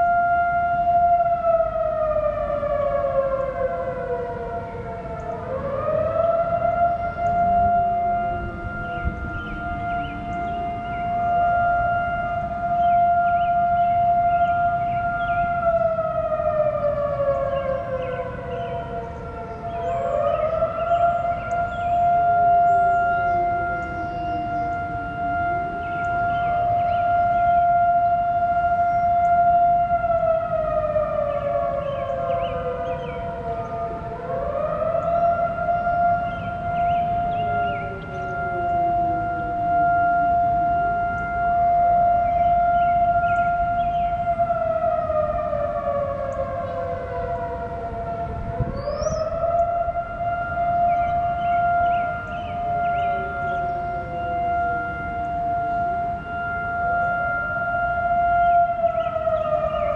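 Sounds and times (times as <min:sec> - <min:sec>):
sirens sliding in pitch: 0:00.0 - 0:59.9
steady siren tone: 0:00.0 - 0:59.9.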